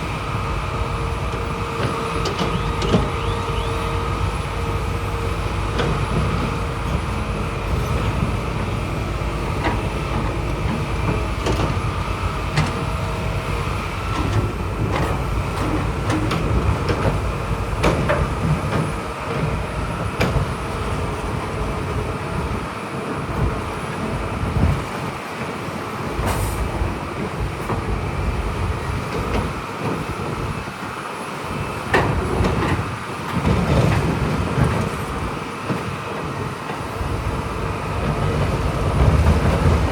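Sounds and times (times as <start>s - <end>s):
diesel bulldozer running: 0.0s - 39.9s.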